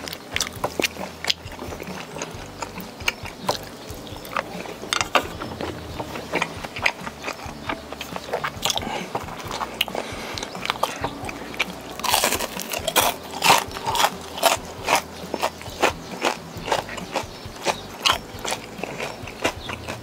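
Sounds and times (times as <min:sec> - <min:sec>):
crunchy chewing of fried food: 0:00.0 - 0:20.0.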